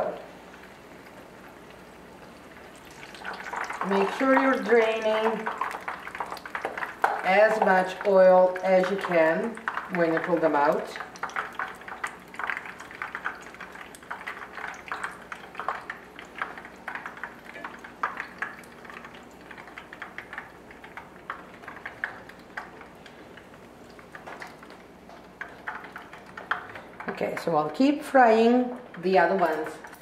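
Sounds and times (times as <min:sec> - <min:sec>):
batter frying in oil: 0:00.0 - 0:30.0.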